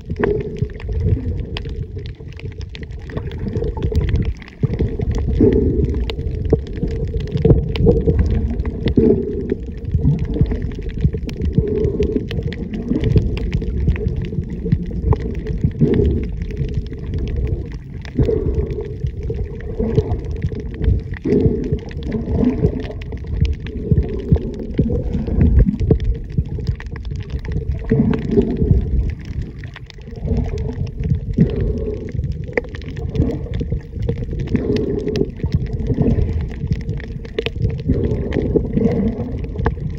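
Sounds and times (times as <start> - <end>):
faint crackle of small clicks: 0.0 - 39.9
underwater water rumble: 0.0 - 39.9.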